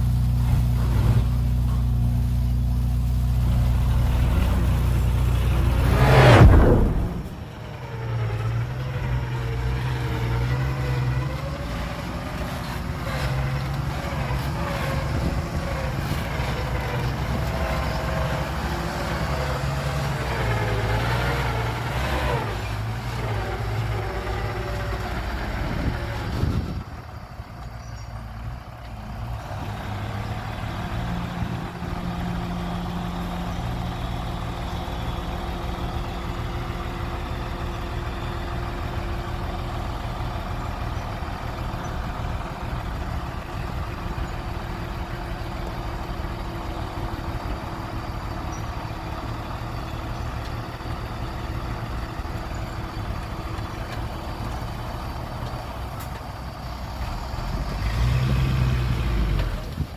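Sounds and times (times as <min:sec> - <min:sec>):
heavy diesel engine working: 0:00.0 - 0:59.9.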